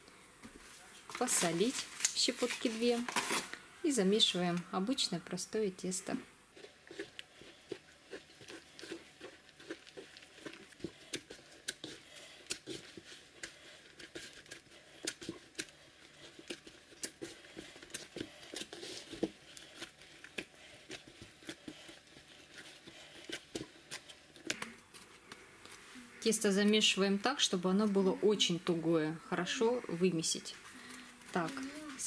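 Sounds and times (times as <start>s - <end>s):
hands kneading dough in a bowl: 0.5s - 3.4s, 6.0s - 32.0s.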